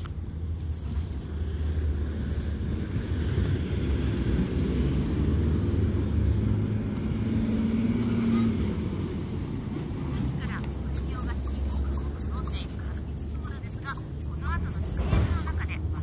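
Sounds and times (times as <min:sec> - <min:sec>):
engine hum: 0:00.0 - 0:16.0
road traffic rumble: 0:00.0 - 0:16.0.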